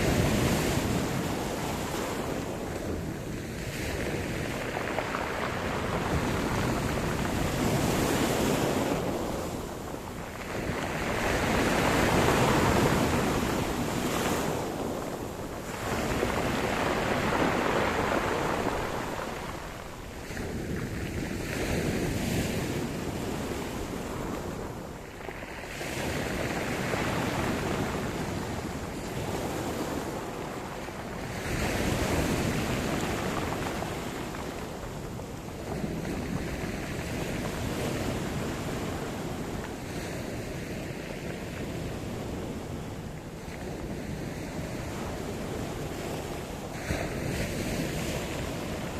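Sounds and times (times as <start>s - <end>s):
waves breaking on shore: 0.0s - 48.9s
wind on microphone: 0.0s - 48.9s.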